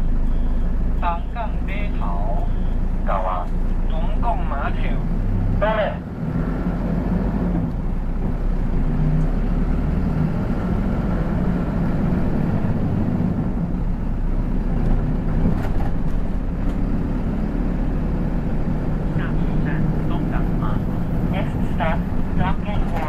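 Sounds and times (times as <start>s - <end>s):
bus engine and road hum: 0.0s - 23.0s.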